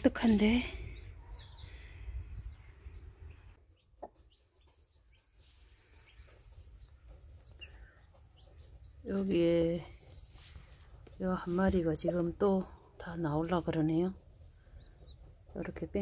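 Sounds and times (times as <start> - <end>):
chicks peeping faintly: 0.1 - 16.0.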